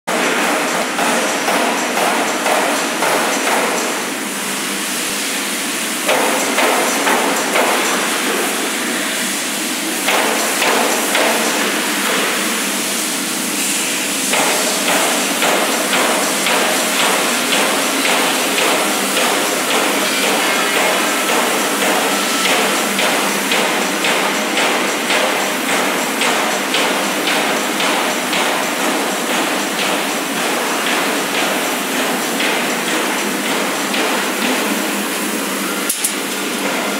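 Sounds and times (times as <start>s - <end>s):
machinery pounding sheet metal: 0.1s - 36.9s.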